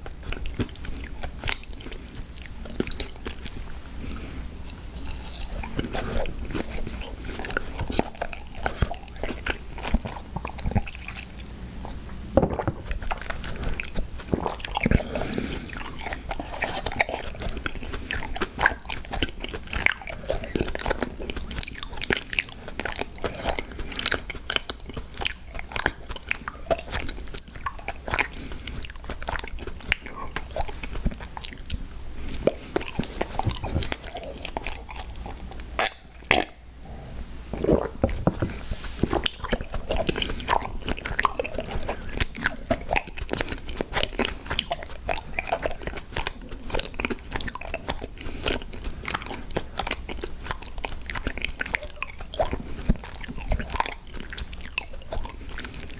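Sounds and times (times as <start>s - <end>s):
chewing crunchy cookies: 0.0s - 55.9s.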